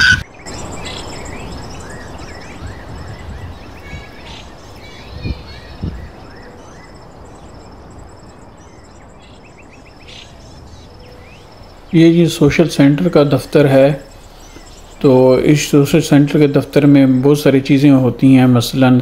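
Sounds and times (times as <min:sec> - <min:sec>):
background hiss: 0:00.0 - 0:19.0
small birds chirping: 0:00.0 - 0:19.0.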